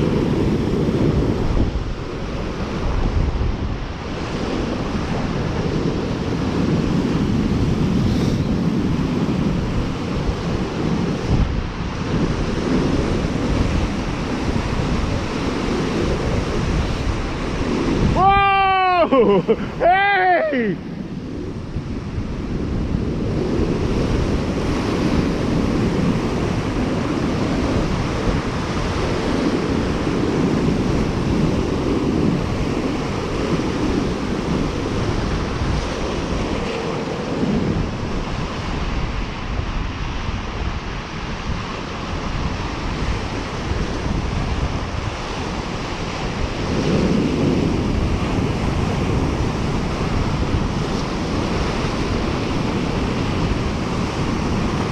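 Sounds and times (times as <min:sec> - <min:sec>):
waves washing onto shore: 0:00.0 - 0:54.9
wind buffeting microphone: 0:00.0 - 0:54.9.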